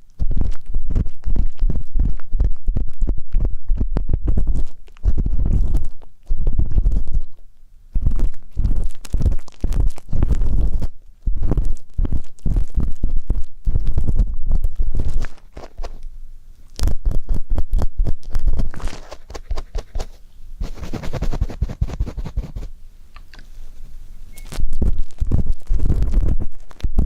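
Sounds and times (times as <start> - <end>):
ear pick scraping microphone: 0.0 - 16.0, 16.8 - 22.7, 23.5 - 27.0.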